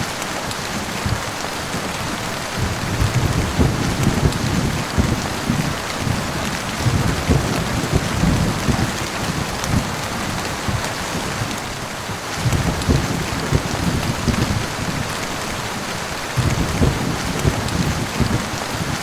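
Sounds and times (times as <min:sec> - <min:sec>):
heavy rain: 0:00.0 - 0:19.0
rolling thunder rumble: 0:00.7 - 0:19.0.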